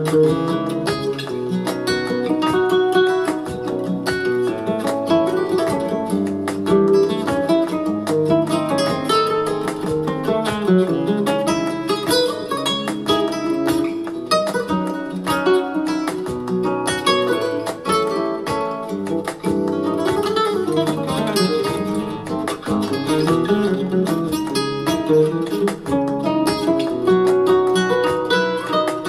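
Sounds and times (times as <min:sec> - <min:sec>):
plucked guitar music: 0:00.0 - 0:29.0.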